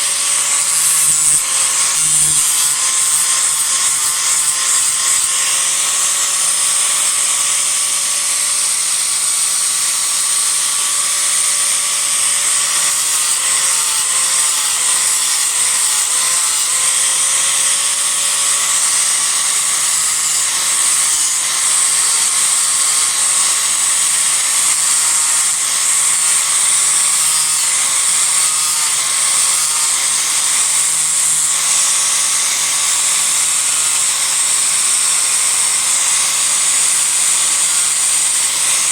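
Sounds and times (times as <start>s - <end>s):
disc grinder whining: 0.0s - 38.9s
hiss of grinding wood: 0.0s - 38.9s.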